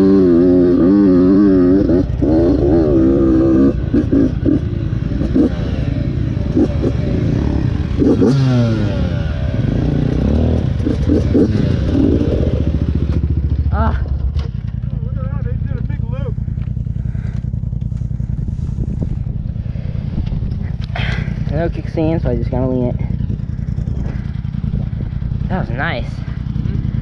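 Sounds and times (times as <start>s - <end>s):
off-road engine revving: 0.0s - 27.0s.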